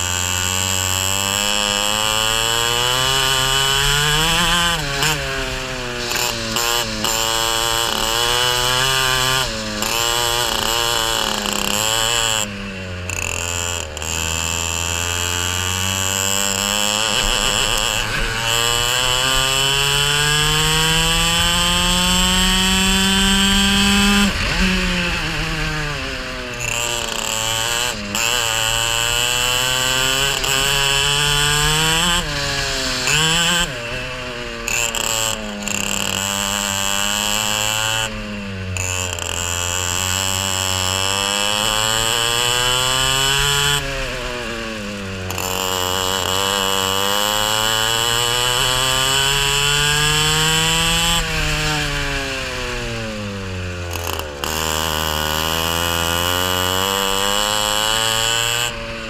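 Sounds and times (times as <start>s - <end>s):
racing kart engine revving: 0.0s - 59.0s.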